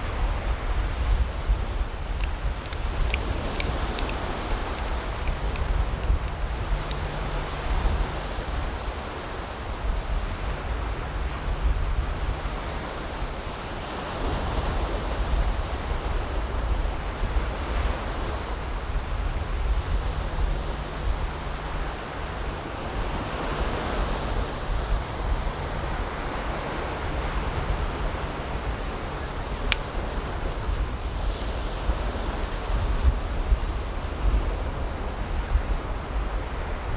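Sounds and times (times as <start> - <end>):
low steady hum: 0.0 - 36.9
surf washing on beach: 0.0 - 36.9
wind buffeting microphone: 0.0 - 36.9.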